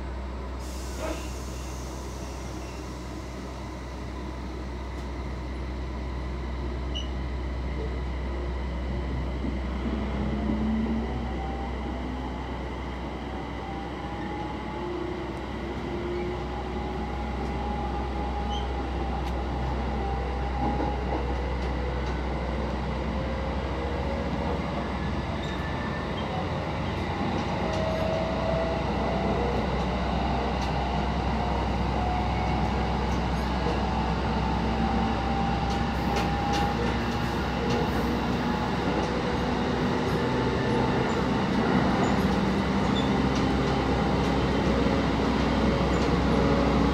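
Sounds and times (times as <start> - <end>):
wheels rumbling on rail: 0.0 - 46.9.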